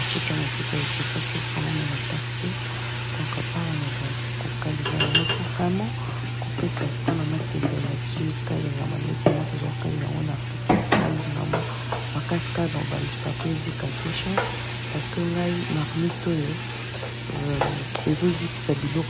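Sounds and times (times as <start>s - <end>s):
leaves sizzling in oil: 0.0s - 19.0s.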